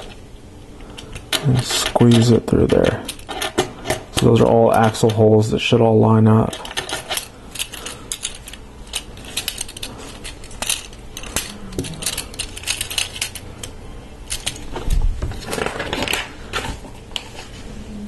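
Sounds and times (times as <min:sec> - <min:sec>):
plastic parts clicking and clattering: 0:00.8 - 0:05.2, 0:06.4 - 0:16.8.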